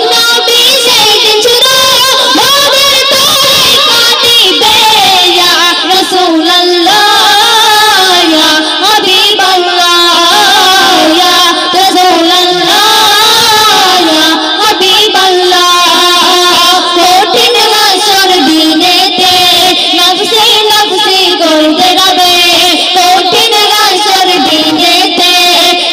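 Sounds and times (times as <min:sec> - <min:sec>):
women singing into microphones: 0:00.0 - 0:25.9.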